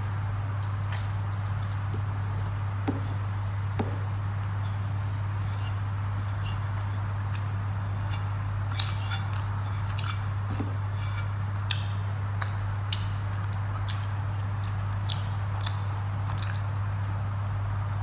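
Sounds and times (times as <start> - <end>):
steady low hum: 0.0 - 18.0
person chewing food: 0.3 - 18.0.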